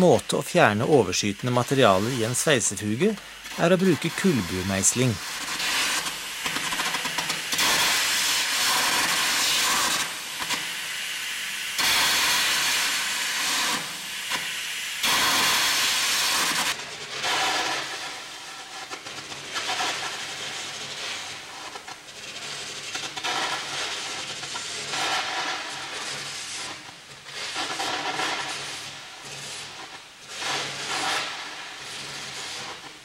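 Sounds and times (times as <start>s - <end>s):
arc gouging hiss and crackle: 0.0s - 33.0s.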